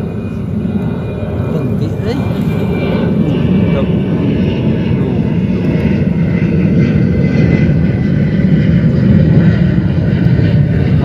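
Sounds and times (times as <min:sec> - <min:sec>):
airplane engines rumbling: 0:00.0 - 0:11.0.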